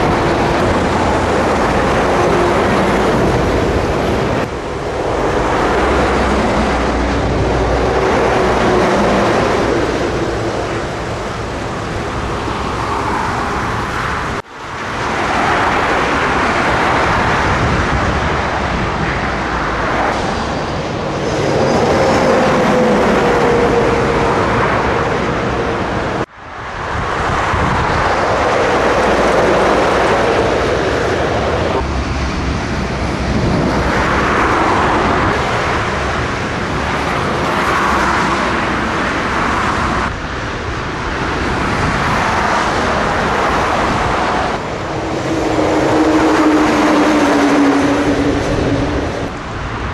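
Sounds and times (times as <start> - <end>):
truck engine and tyre noise: 0.0 - 49.9.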